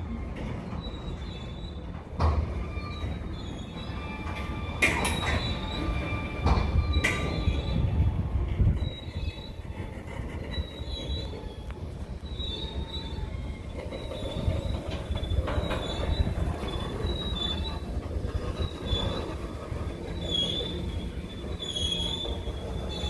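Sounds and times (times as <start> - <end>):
freight train cars rumbling: 0.0 - 23.0
train wheels squealing: 0.0 - 23.0.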